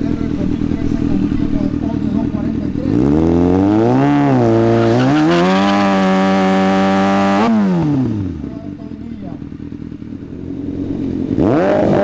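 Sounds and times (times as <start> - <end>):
motorcycle engine revving hard: 0.0 - 8.8, 9.5 - 12.0.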